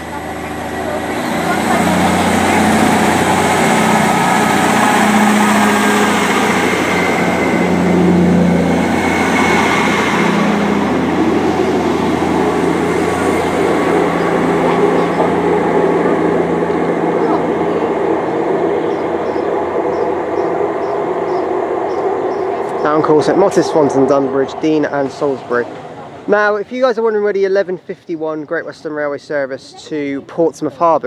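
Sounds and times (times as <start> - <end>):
train rumbling on rails: 0.0 - 29.0
diesel engines running under load: 0.0 - 30.8.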